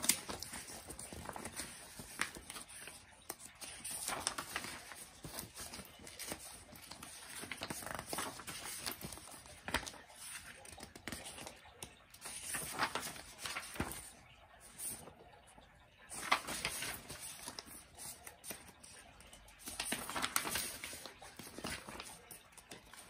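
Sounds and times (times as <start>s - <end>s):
paper flicks and taps: 0.0s - 14.2s, 16.1s - 23.0s
newspaper rustling and crinkling: 0.0s - 15.3s, 16.0s - 23.0s.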